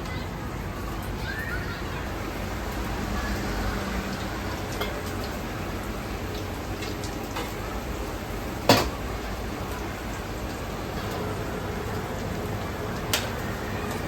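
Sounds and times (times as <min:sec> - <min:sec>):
food sizzling in hot fat: 0:01.2 - 0:14.0.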